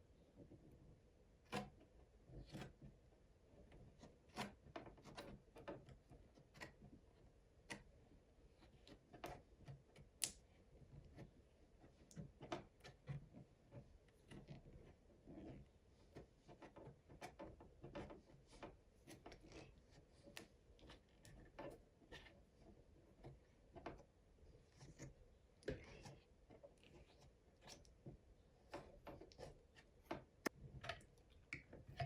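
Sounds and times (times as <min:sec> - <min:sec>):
faint irregular clicks and knocks: 0:00.3 - 0:32.0.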